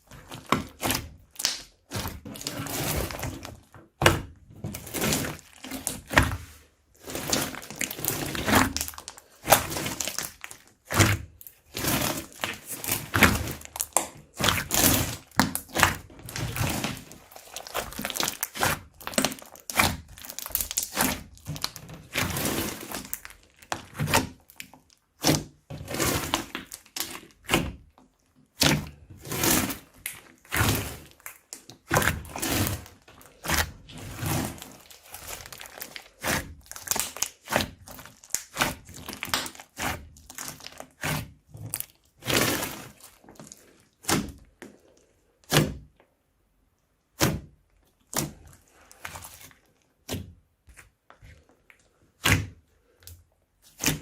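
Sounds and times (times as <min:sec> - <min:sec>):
crunchy slime crackling and popping: 0:00.0 - 0:45.8, 0:47.1 - 0:54.0.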